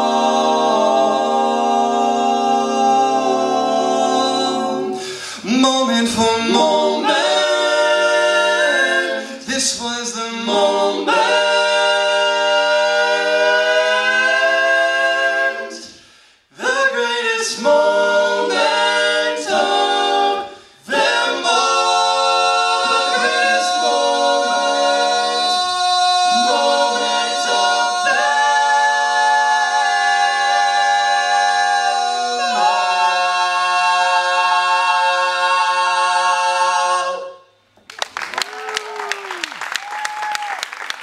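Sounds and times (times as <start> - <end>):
male a cappella group singing: 0.0 - 37.5.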